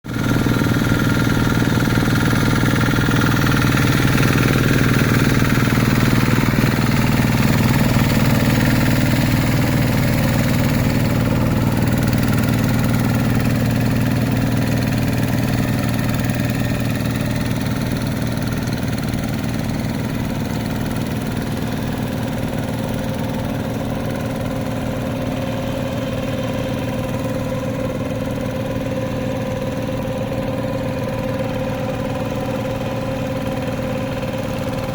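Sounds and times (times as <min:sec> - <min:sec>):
hand tractor engine running: 0:00.1 - 0:34.9.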